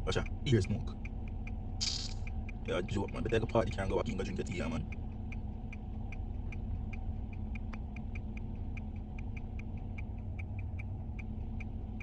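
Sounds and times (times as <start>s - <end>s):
rapid mechanical ticking: 0.0s - 12.0s
steady low rumble: 0.0s - 12.0s.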